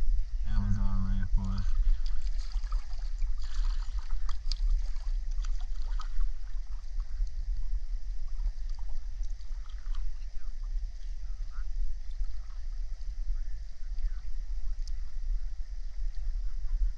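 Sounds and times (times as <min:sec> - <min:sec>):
low boat rumble: 0:00.0 - 0:16.9
water splashing and lapping: 0:01.4 - 0:16.9.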